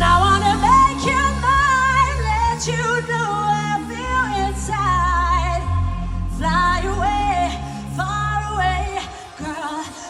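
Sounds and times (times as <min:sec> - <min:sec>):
eurodance music: 0:00.0 - 0:10.0
person singing: 0:00.0 - 0:10.0.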